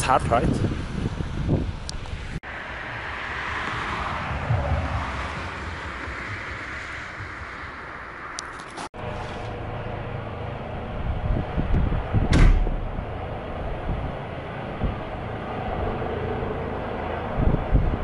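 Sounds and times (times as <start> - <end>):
helicopter rumble: 0.0 - 18.0.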